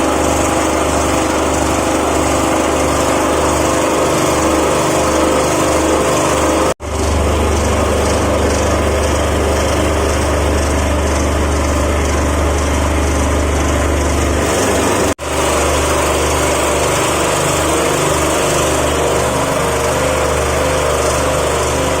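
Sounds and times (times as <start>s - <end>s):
vibrating sieve machine humming: 0.0s - 22.0s.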